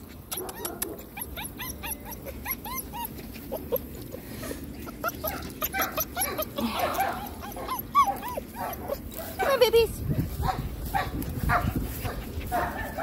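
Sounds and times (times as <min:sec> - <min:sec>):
puppies whimpering and yipping: 0:00.0 - 0:13.0.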